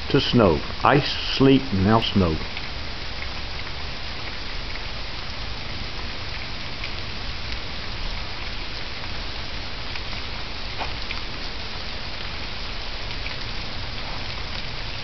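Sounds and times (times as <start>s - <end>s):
wet snow falling hiss: 0.0s - 15.0s.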